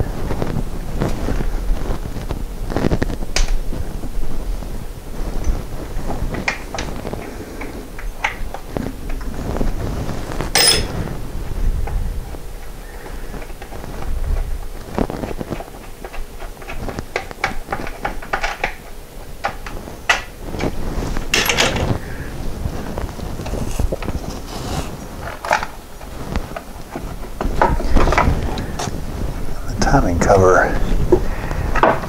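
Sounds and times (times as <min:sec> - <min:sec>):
plastic scraping rustle: 0:00.0 - 0:32.0.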